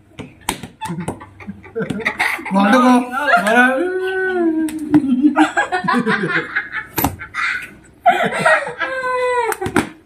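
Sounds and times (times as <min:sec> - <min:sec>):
people laughing: 0:00.8 - 0:09.8.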